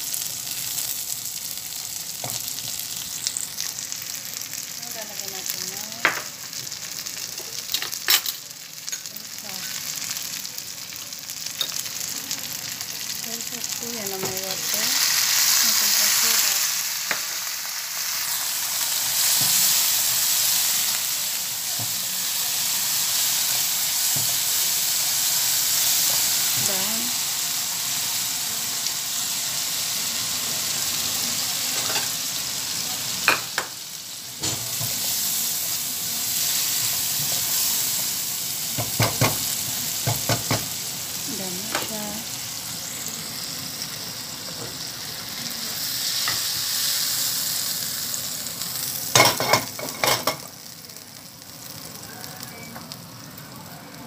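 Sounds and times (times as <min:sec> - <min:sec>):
shrimp sizzling in hot oil: 0:00.0 - 0:54.0.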